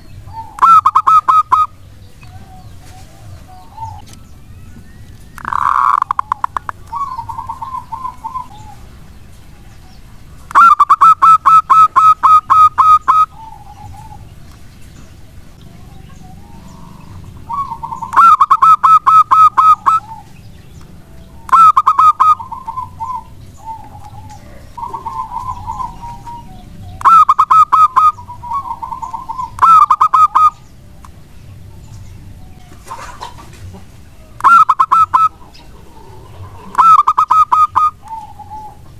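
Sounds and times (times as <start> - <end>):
dove cooing: 0.0 - 30.7, 32.5 - 38.9
soft trilled bird phrases: 0.0 - 30.8, 31.8 - 38.9.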